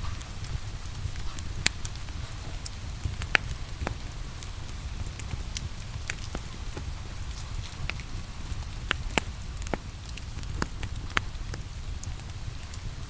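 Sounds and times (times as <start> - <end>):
rain hissing: 0.0 - 13.0
wood fire crackling and popping: 0.0 - 13.0.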